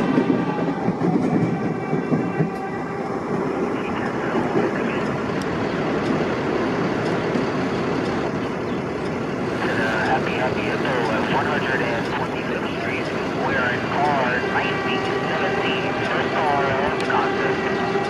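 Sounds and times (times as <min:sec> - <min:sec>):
subway train rumbling on rails: 0:00.0 - 0:18.0.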